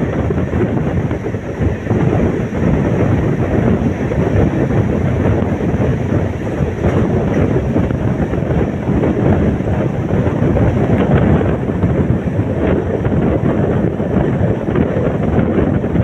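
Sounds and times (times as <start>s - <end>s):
train wheels rumbling on rails: 0.0s - 16.0s
wind rushing over microphone: 0.0s - 16.0s.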